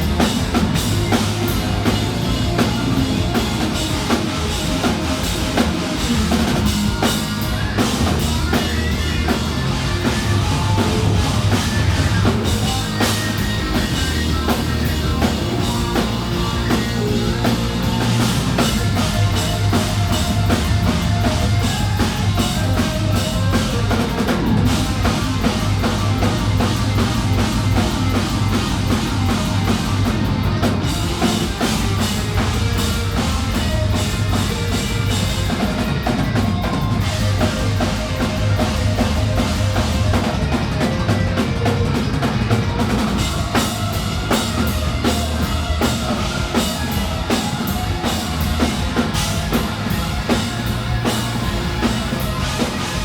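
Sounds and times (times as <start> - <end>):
bass drum: 0.0 - 53.0
hard rock band playing: 0.0 - 53.0.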